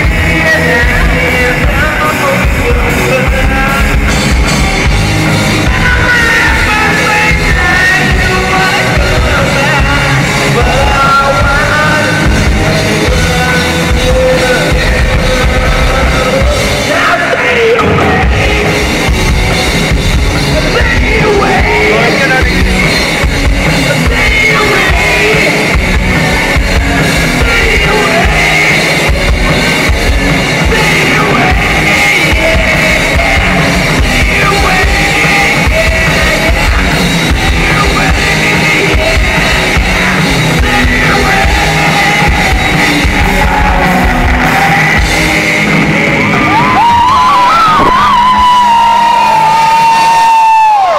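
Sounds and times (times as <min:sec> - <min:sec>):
drum kit: 0:00.0 - 0:50.9
electric guitars: 0:00.0 - 0:50.9
person singing: 0:00.0 - 0:50.9.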